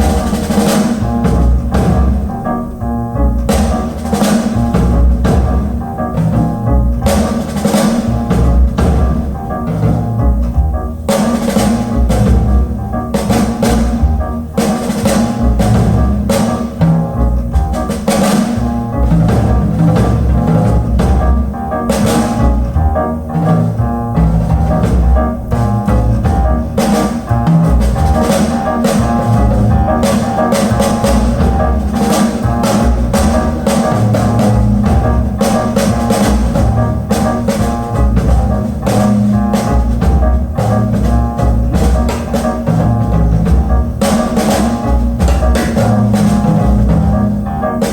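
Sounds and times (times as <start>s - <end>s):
music with drums and bass: 0.0s - 47.9s.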